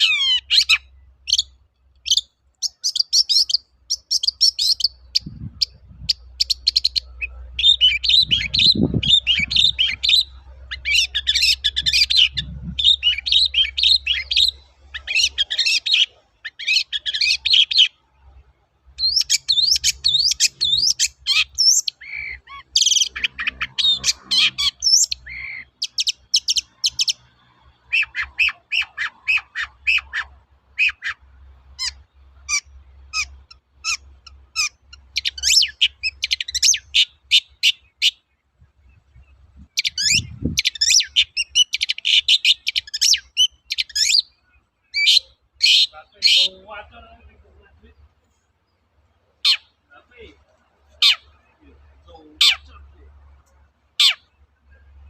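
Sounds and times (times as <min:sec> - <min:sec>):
bird singing scratchy chatter: 0:00.0 - 0:55.0.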